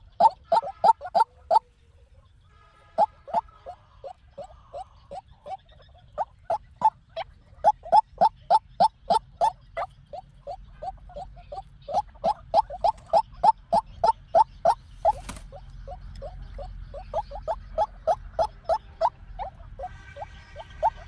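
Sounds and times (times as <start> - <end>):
waterhen calling: 0.0 - 1.7, 2.8 - 21.0.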